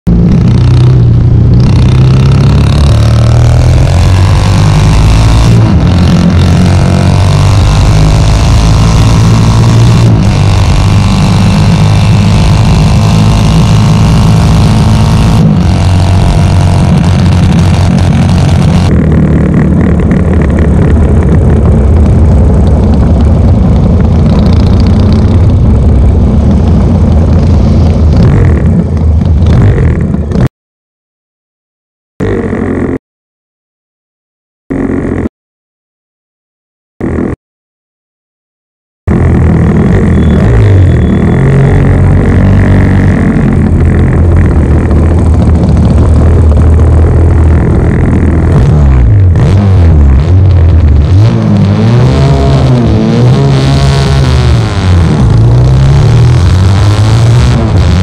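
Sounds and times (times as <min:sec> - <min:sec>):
motorcycle engine accelerating: 0:00.1 - 0:30.5, 0:32.2 - 0:33.0, 0:34.7 - 0:35.3, 0:37.0 - 0:37.4, 0:39.1 - 0:58.0.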